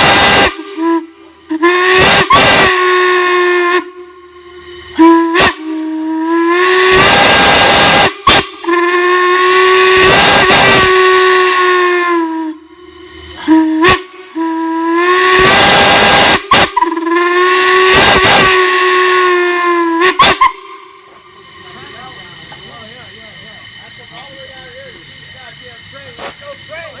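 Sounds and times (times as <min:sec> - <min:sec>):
large whistle blasts: 0:00.0 - 0:27.0.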